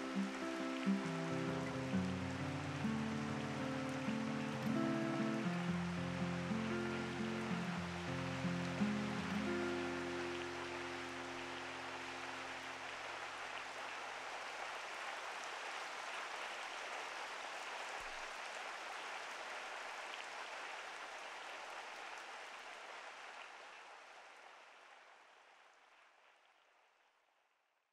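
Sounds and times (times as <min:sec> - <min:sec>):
rain hiss: 0:00.0 - 0:25.4.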